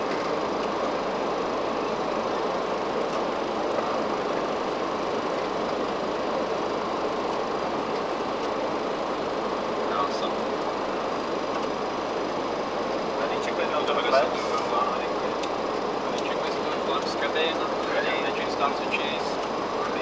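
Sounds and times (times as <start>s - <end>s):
airflow and engine noise in cockpit: 0.0s - 20.0s.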